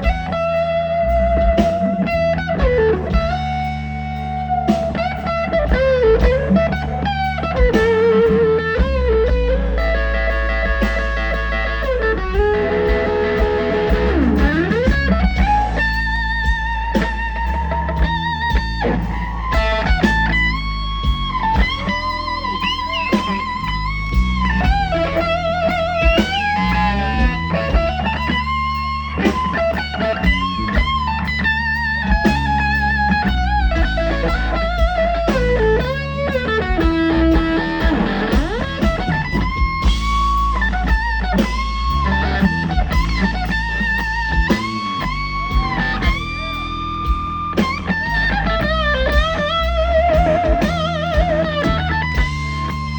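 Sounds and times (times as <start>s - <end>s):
bass guitar: 0.0s - 52.9s
drums: 0.0s - 52.9s
electric guitar blues solo: 0.0s - 52.9s.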